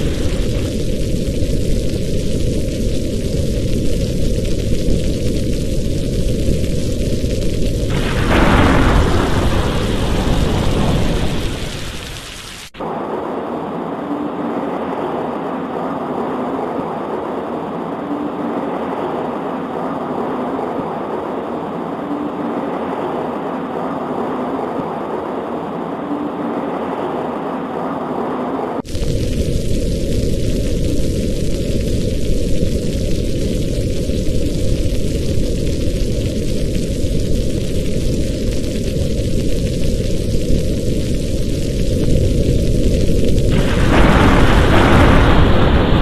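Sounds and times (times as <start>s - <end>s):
steady rain: 0.0s - 46.0s
thunder rumbling: 0.0s - 46.0s.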